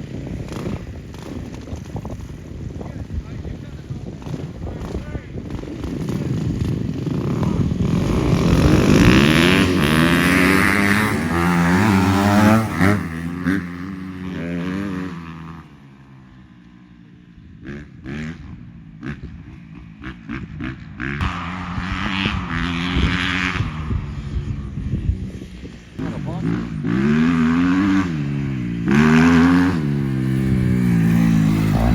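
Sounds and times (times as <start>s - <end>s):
dirt bike engine revving: 0.0s - 16.4s, 17.6s - 31.9s.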